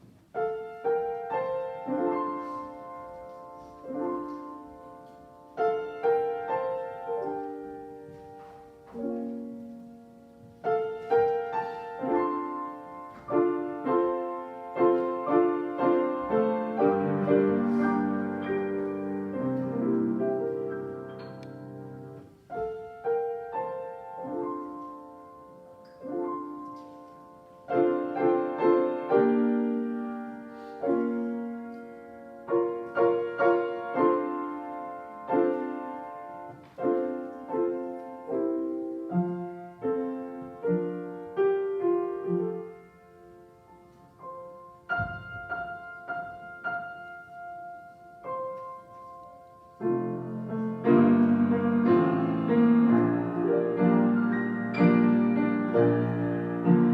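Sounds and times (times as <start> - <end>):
slow piano piece: 0.0 - 56.9.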